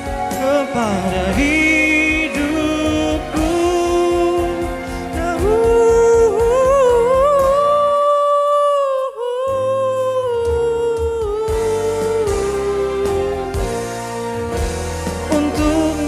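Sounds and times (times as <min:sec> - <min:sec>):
man singing a ballad: 0:00.0 - 0:13.8, 0:15.1 - 0:16.0
backing track: 0:00.0 - 0:16.0.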